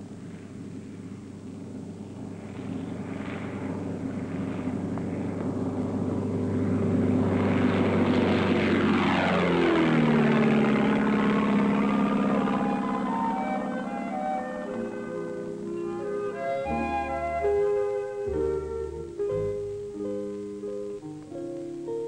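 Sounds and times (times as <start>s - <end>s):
light aircraft engine and propeller: 0.0s - 22.0s.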